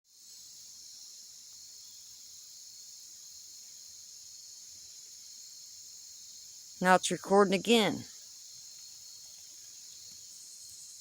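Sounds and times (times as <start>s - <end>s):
high-pitched insect chorus: 0.1s - 6.8s, 8.1s - 11.0s.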